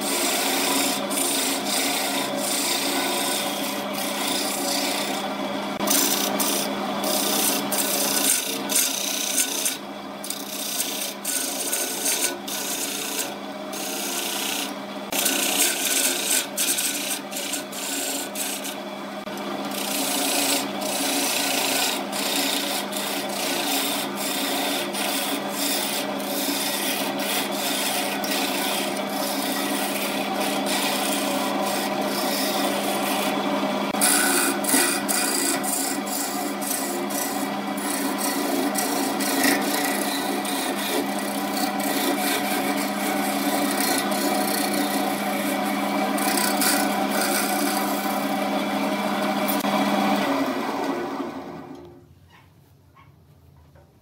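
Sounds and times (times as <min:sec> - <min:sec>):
turning tool scraping wood: 0:00.0 - 0:50.4
wood lathe motor hum: 0:00.0 - 0:52.0.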